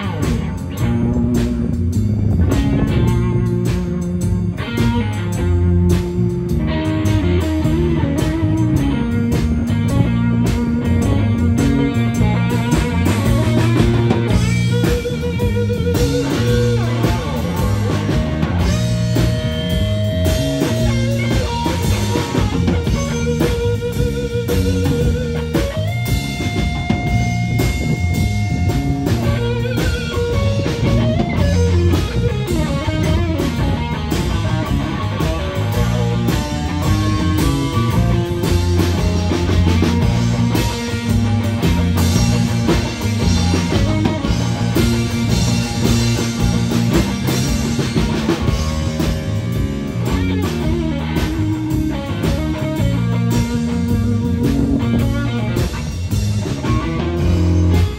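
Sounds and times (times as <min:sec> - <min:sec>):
drum kit: 0:00.0 - 0:57.9
electric bass: 0:00.0 - 0:57.9
electric guitar solo: 0:00.0 - 0:57.9.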